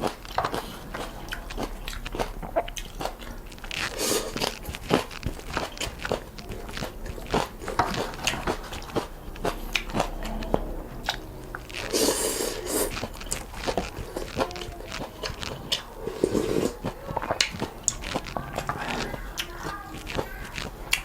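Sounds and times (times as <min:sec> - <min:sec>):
chewing with wet mouth clicks: 0:00.0 - 0:21.0
noisy slurp: 0:00.0 - 0:21.0.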